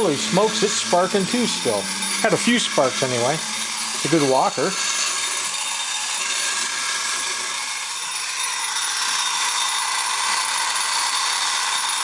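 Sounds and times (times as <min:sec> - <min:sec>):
clockwork gears whirring: 0:00.0 - 0:12.0.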